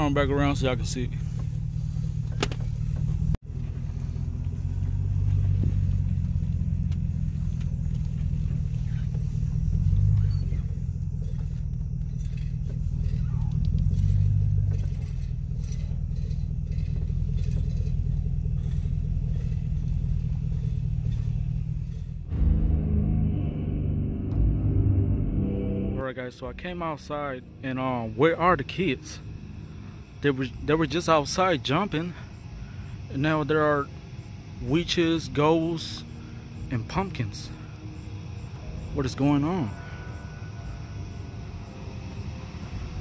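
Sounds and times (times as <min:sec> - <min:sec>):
truck engine and road rumble: 0:00.0 - 0:43.0.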